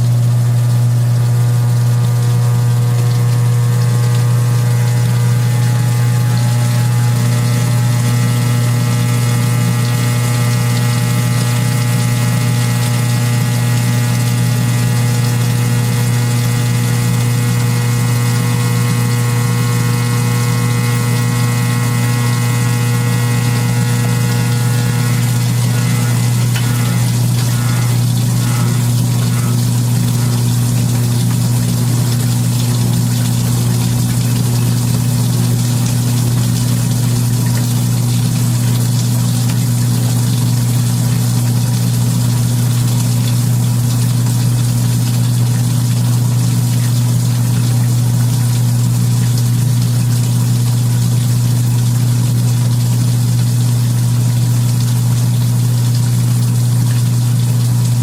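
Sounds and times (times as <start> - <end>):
washing machine motor humming: 0.0 - 58.0
water hissing in machine: 0.0 - 58.0.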